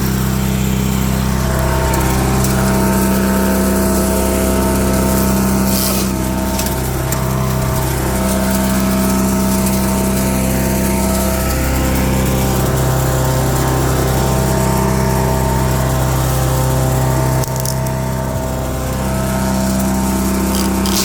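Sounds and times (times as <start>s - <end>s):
harsh rush of chipping noise: 0.0s - 21.0s
wood chipper engine running: 0.0s - 21.0s.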